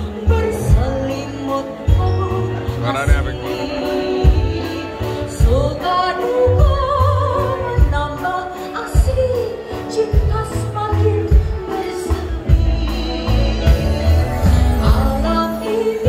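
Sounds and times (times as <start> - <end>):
band music with deep beat: 0.0 - 16.0
woman singing with vibrato: 0.0 - 16.0.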